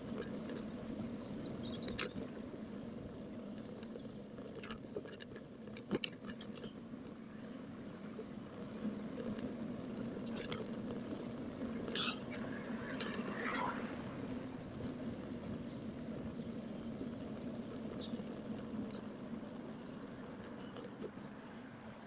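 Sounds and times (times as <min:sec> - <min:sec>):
bicycle clicks and rattles: 0:00.0 - 0:22.0
wind and tyre rumble: 0:00.0 - 0:22.0.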